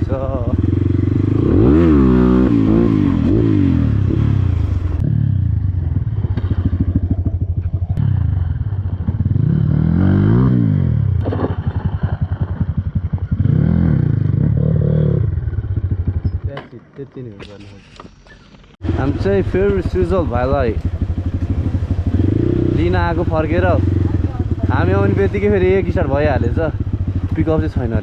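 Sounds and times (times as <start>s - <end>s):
dirt bike engine revving: 0.0s - 16.6s, 18.8s - 28.0s.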